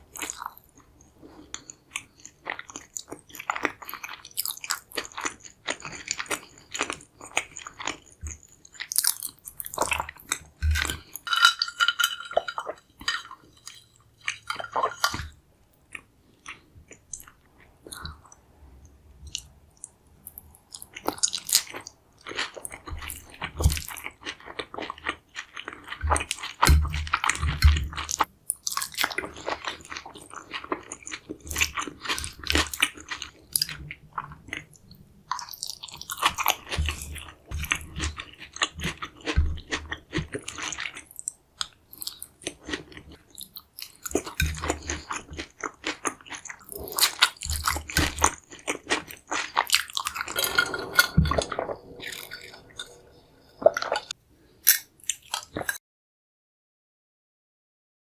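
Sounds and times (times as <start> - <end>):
person chewing crunchy food: 0.0 - 18.4, 19.2 - 55.8.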